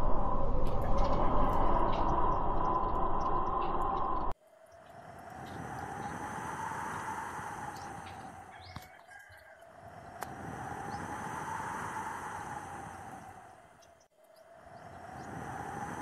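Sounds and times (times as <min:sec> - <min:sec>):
gusty wind rushing through trees: 0:00.0 - 0:16.0.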